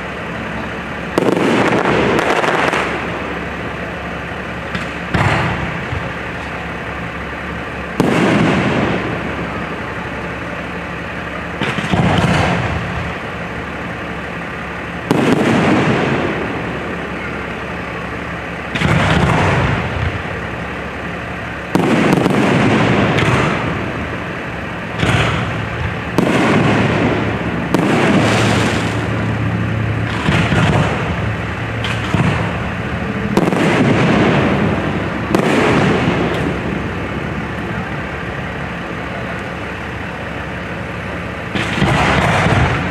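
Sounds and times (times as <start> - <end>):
fireworks shells bursting: 0.0 - 42.9.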